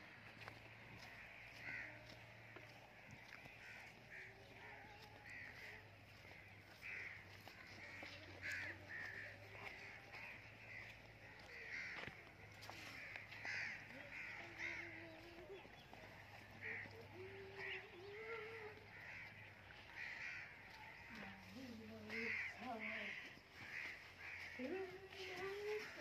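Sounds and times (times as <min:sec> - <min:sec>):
harsh caw-like bird calls: 0:00.0 - 0:26.0.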